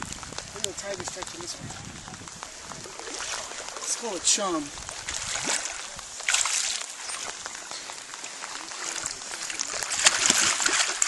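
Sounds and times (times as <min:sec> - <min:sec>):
water sloshing: 0:00.0 - 0:11.0
fish thrashing and splashing: 0:00.3 - 0:11.0.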